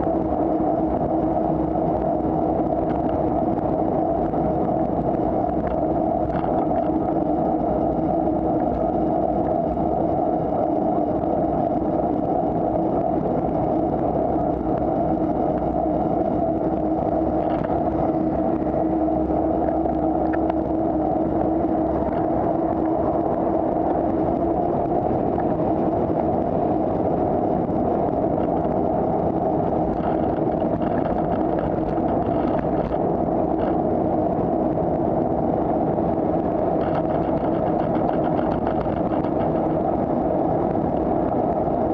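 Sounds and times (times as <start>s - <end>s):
bicycle road noise: 0.0s - 41.9s
wind rush: 0.0s - 41.9s.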